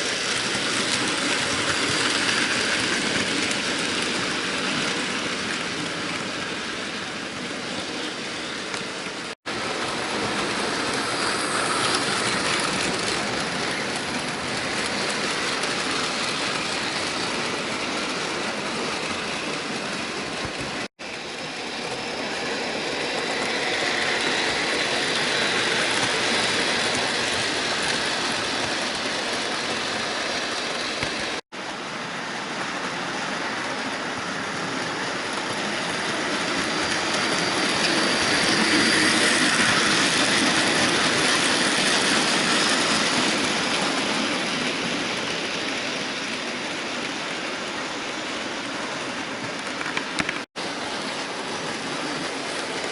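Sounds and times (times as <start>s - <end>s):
model trains whirring on track: 0.0s - 52.9s.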